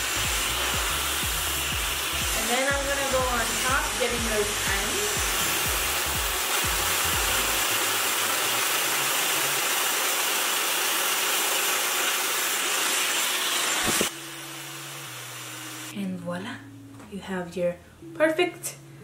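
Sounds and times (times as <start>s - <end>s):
hair dryer blowing: 0.0s - 15.9s.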